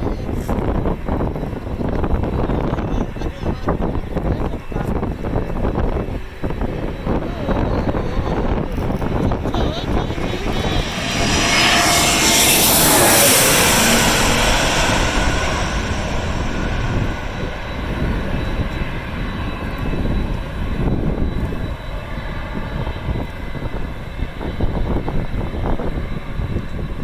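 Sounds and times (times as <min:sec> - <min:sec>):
airliner passing overhead: 0:00.0 - 0:27.0
wind rumbling on microphone: 0:00.0 - 0:27.0.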